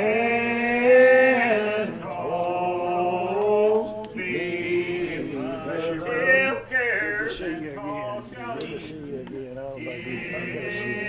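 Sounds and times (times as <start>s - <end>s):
men singing a hymn unaccompanied: 0.0s - 11.0s.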